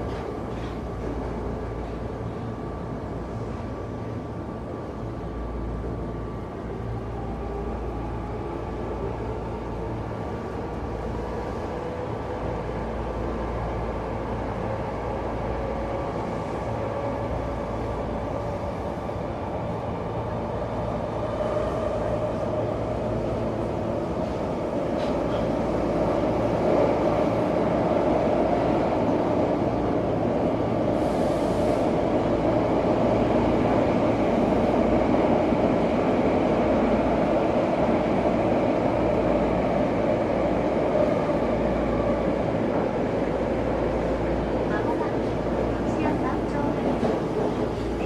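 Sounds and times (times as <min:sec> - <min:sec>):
subway train rumble: 0:00.0 - 0:48.0.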